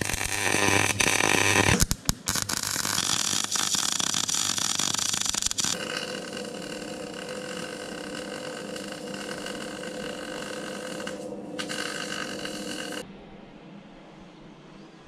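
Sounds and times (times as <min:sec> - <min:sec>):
arc welding hiss: 0:00.0 - 0:13.0
constant hum: 0:00.0 - 0:15.0.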